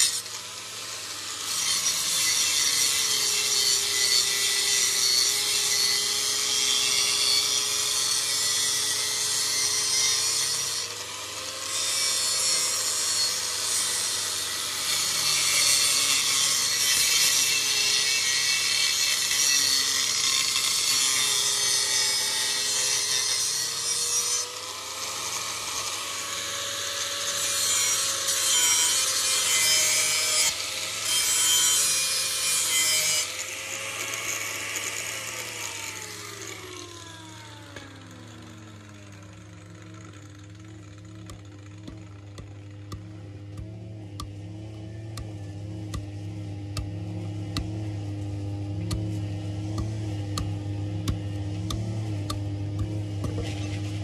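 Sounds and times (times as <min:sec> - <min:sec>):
blade scraping on grinder: 0:00.0 - 0:54.0
grinder motor humming: 0:00.0 - 0:54.0.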